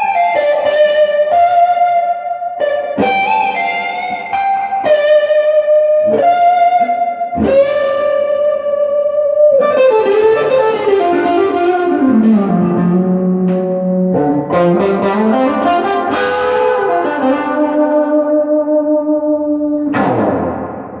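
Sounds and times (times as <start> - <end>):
electric guitar with reverb: 0.0 - 21.0.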